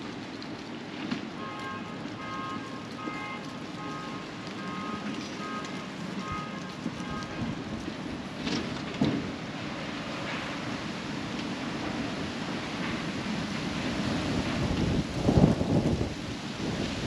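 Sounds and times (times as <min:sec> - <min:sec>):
traffic: 0:00.0 - 0:17.0.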